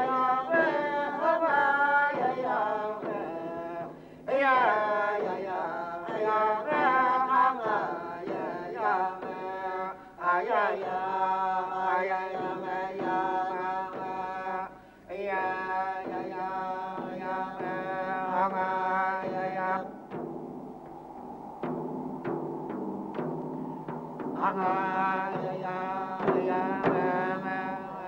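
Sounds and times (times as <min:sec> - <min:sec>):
wordless chant-like singing: 0:00.0 - 0:28.0.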